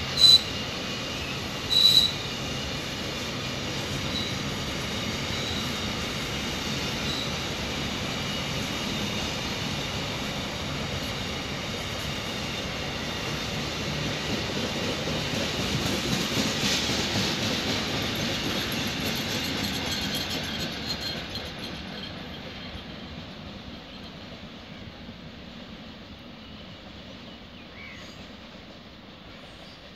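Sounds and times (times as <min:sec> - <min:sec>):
freight train wheels rumbling: 0:00.0 - 0:29.9.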